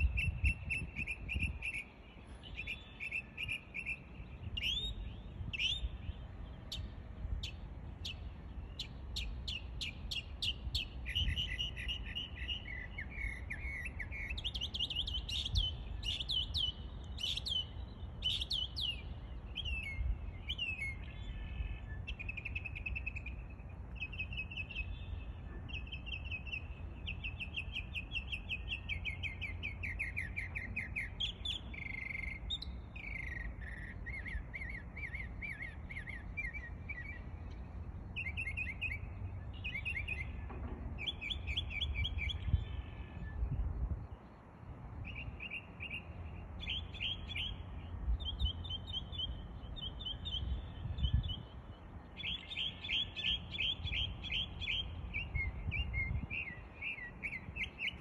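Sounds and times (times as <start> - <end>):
mockingbird singing: 0.0 - 43.4, 45.0 - 58.0.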